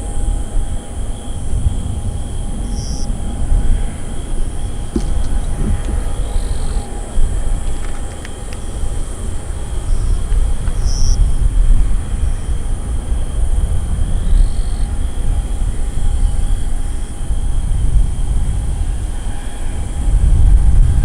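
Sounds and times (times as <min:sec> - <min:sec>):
distant jet engines rumbling: 0:00.0 - 0:21.0
thin steady whining tones: 0:00.0 - 0:21.0.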